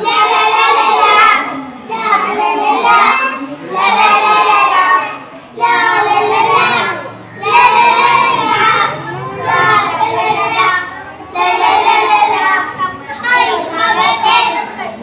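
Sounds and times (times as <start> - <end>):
children singing into a microphone: 0.0 - 15.0.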